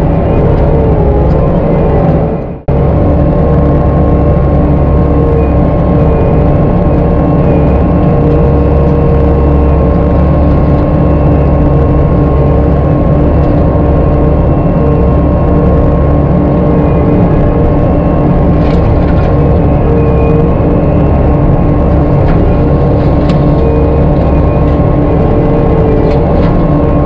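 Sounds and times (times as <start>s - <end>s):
constant machine whine: 0.0s - 27.0s
engine drone: 0.0s - 27.0s.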